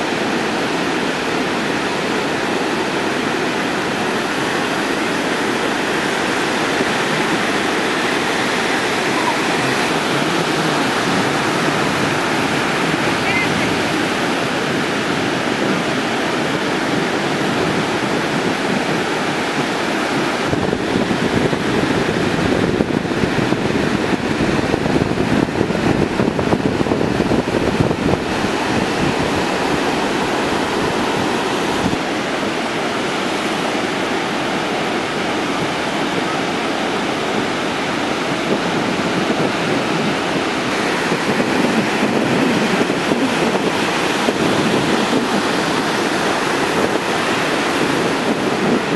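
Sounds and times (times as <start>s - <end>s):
surf breaking on beach: 0.0s - 48.9s
wind buffeting microphone: 0.0s - 48.9s.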